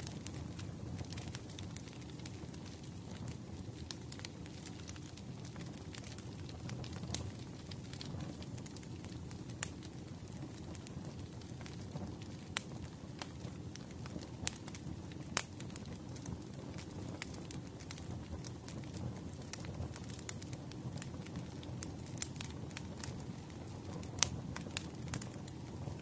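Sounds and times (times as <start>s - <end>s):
sharp pops of burning wood: 0.0s - 26.0s
wood fire crackling: 0.0s - 26.0s.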